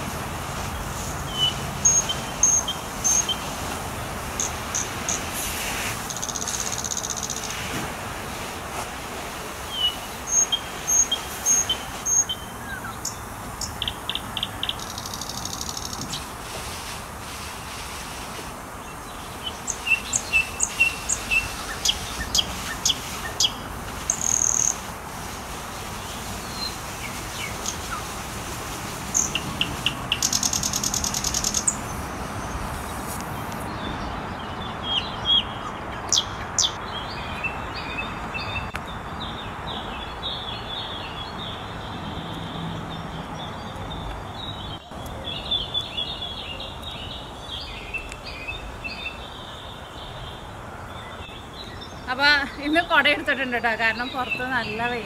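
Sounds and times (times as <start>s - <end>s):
small birds chirping: 0.0s - 8.5s, 9.6s - 16.5s, 18.4s - 24.9s, 25.8s - 55.0s
steady outdoor hiss: 0.0s - 55.0s.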